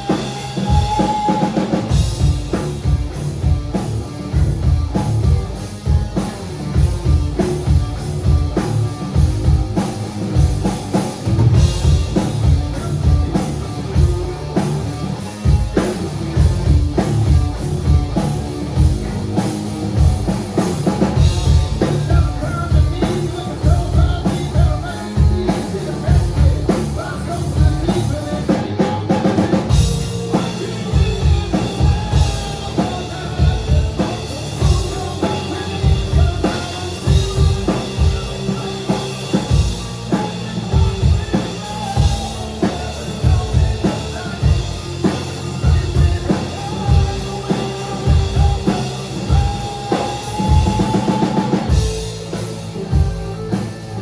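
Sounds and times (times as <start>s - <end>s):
drum kit beat: 0.0s - 54.0s
rock band playing live: 0.0s - 54.0s.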